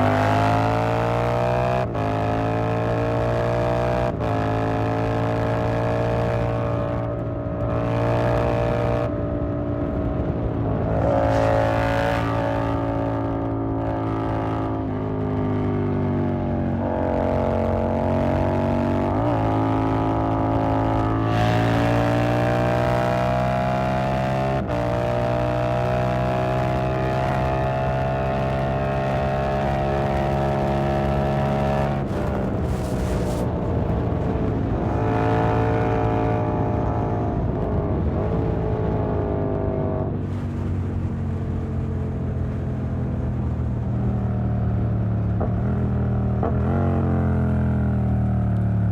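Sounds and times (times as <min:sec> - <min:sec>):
motorcycle engine cruising: 0:00.0 - 0:48.9.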